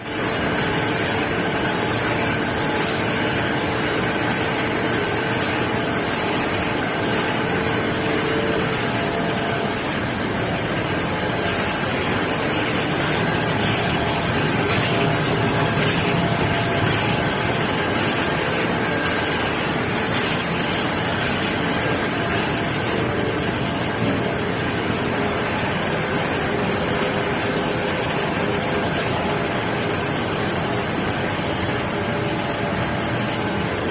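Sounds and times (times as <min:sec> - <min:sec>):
laminating machine clatter and hum: 0:00.0 - 0:33.9.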